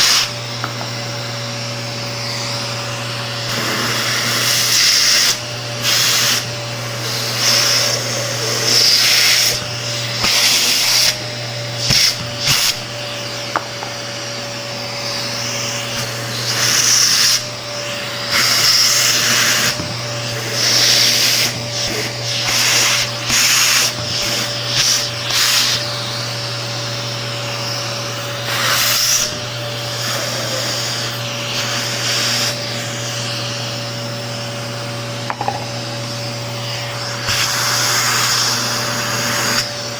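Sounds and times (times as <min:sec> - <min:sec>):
vacuum cleaner motor hum: 0:00.0 - 0:39.9.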